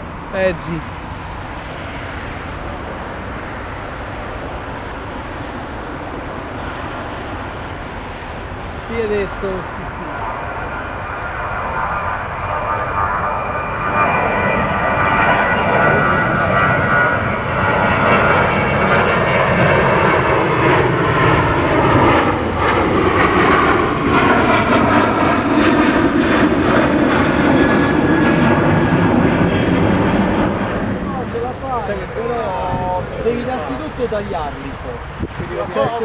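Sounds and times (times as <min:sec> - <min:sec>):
airliner engines passing: 0:00.0 - 0:36.0.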